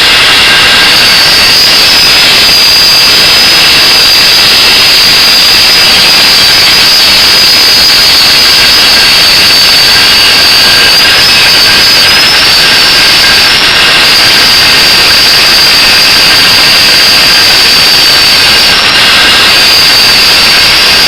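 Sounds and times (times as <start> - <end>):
angle grinder grinding steel: 0.0 - 21.0.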